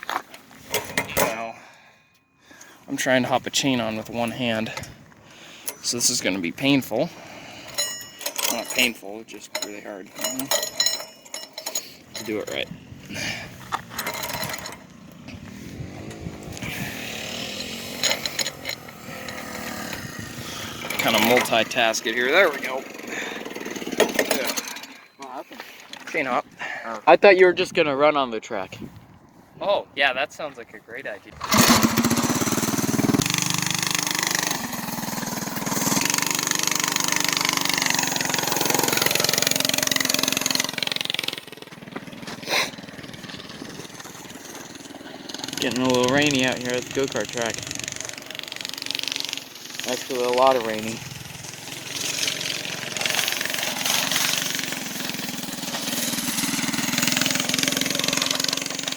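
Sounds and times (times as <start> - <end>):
small gas engine running: 0.5 - 25.9, 31.3 - 58.9.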